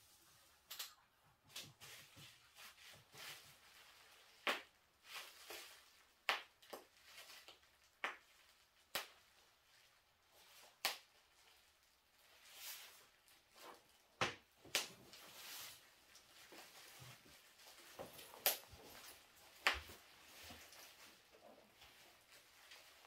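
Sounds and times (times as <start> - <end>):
soft rustling: 1.5 - 14.2, 14.8 - 23.0.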